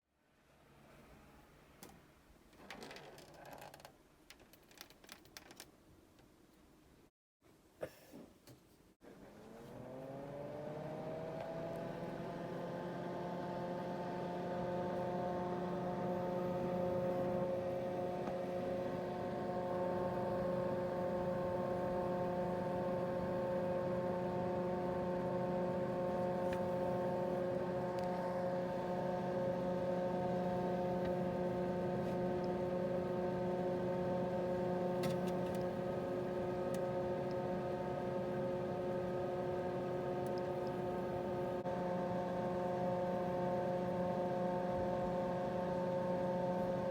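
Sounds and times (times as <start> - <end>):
computer fans whirring: 9.4 - 46.9.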